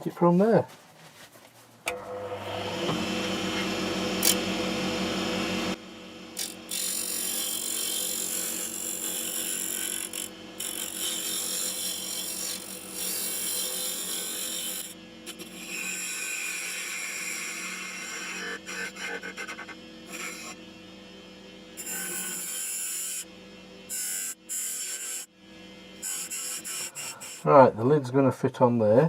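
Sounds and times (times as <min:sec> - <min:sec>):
lathe motor hum: 0:01.9 - 0:27.5
tool cutting spinning wood: 0:01.9 - 0:28.0.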